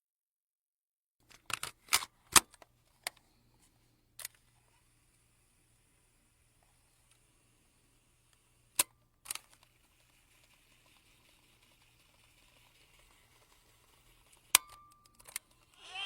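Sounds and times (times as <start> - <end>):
faint steady whir: 2.8 - 16.0.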